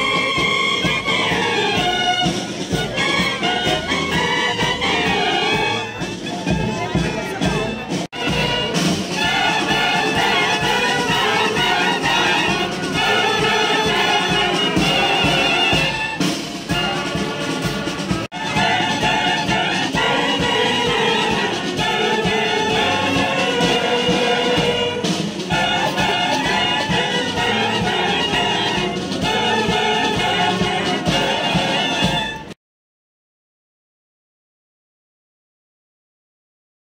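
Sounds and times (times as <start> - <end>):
military band playing: 0.0 - 32.6.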